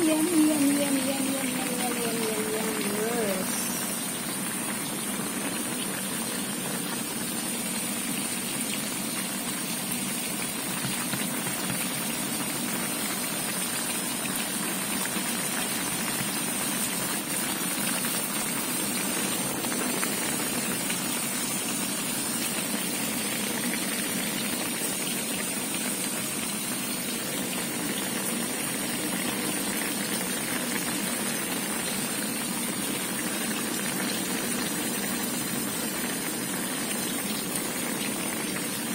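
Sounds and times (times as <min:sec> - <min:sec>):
broth boiling and bubbling: 0:00.0 - 0:38.9.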